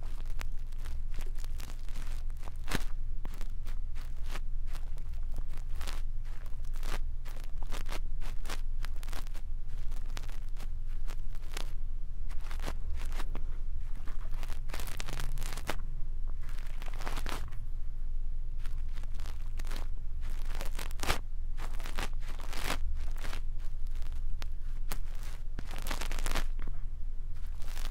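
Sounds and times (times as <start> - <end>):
brush scratching on microphone: 0.0 - 15.8, 16.4 - 17.5, 18.6 - 27.9
low hum: 0.0 - 27.9.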